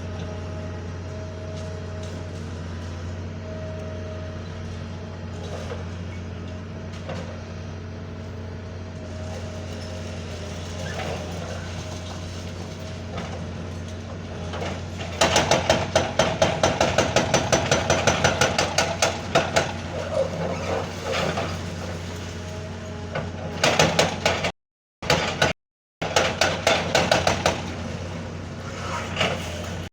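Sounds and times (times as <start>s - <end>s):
backhoe engine running: 0.0s - 29.9s.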